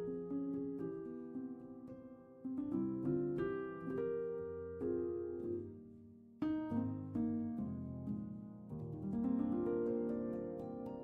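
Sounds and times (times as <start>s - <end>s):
piano-like instrumental music: 0.0s - 11.0s.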